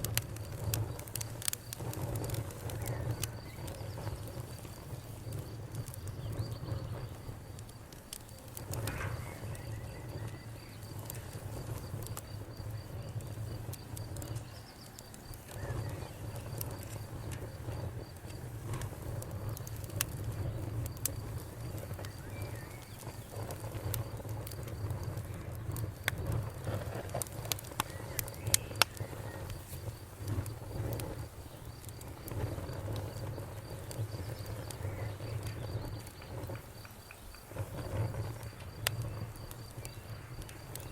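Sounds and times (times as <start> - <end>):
campfire crackling and popping: 0.0 - 40.9
insect chirping: 0.0 - 40.9.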